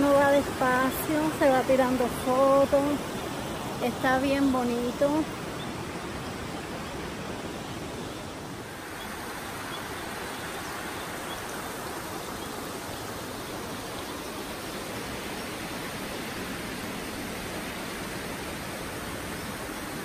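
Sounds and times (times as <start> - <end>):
stream tumbling over rocks: 0.0 - 20.0.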